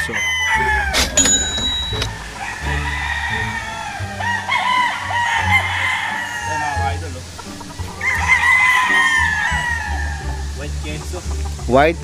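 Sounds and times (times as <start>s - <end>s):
roosters crowing: 0.0s - 11.6s.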